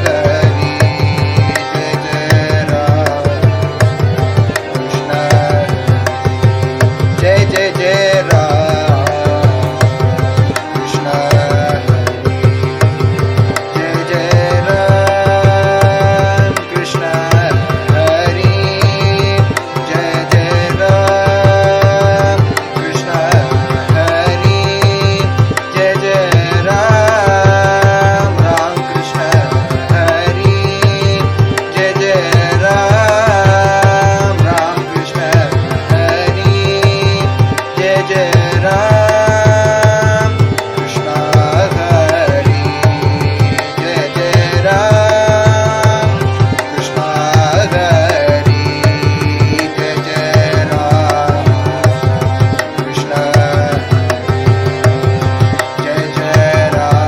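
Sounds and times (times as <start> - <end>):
steady drum rhythm: 0.0 - 57.0
sustained harmonium: 0.0 - 57.0.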